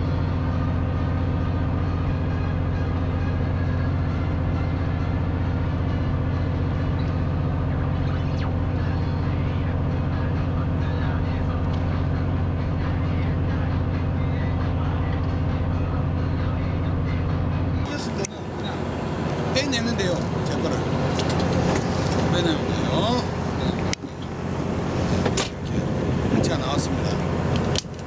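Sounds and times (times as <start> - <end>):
boat engine humming: 0.0 - 28.0.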